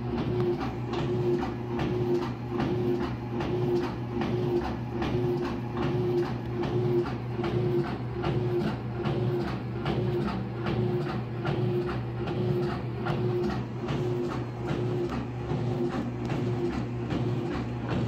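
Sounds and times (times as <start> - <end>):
pump mechanical clicks: 0.0 - 18.0.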